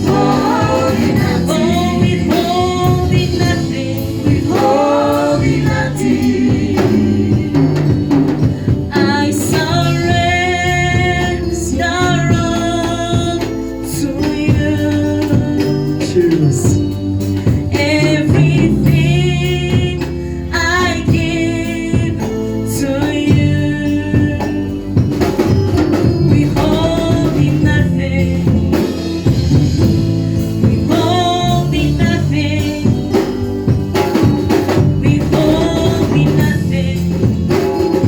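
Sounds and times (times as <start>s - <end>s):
band accompaniment with steady beat: 0.0s - 38.0s
group of voices singing gospel: 0.0s - 38.0s.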